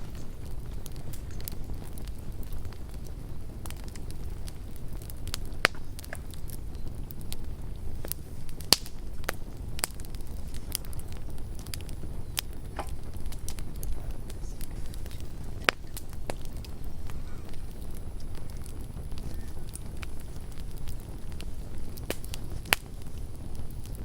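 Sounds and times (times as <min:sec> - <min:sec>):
campfire rumbling: 0:00.0 - 0:24.0
fire crackles and pops: 0:00.0 - 0:24.0.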